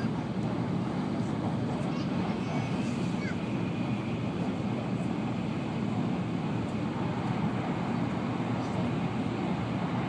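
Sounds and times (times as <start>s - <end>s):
train rumble inside cabin: 0.0s - 10.0s.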